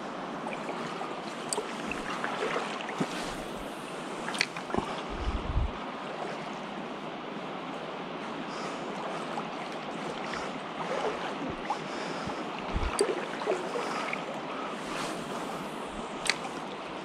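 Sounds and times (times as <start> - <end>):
shallow river flowing over stones: 0.0 - 17.0.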